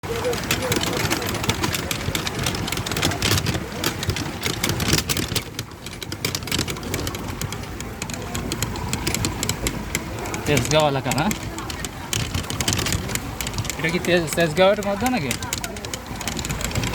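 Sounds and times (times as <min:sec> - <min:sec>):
traffic noise with clicks: 0:00.0 - 0:16.9
vehicle engines running: 0:00.0 - 0:16.9.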